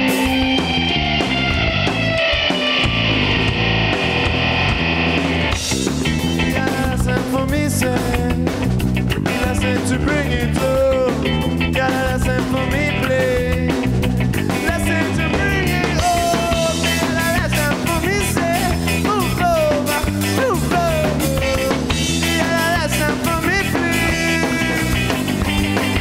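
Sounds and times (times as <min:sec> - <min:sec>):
bass: 0:00.0 - 0:26.0
drums: 0:00.0 - 0:26.0
sliding lead guitar line: 0:00.0 - 0:26.0.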